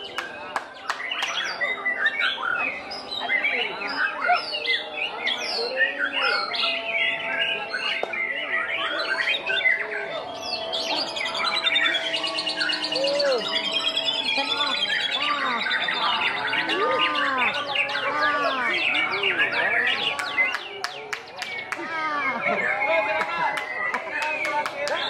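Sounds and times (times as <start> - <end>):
other songbirds calling: 0.0 - 25.0
songbird whistled song: 0.0 - 25.0.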